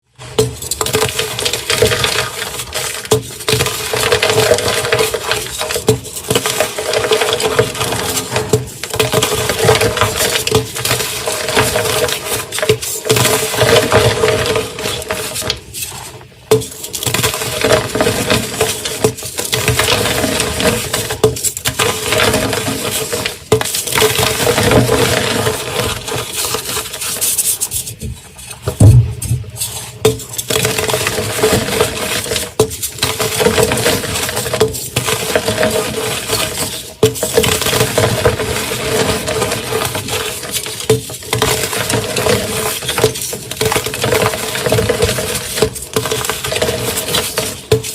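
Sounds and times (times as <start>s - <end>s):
chalk blocks being crushed: 0.2s - 47.9s.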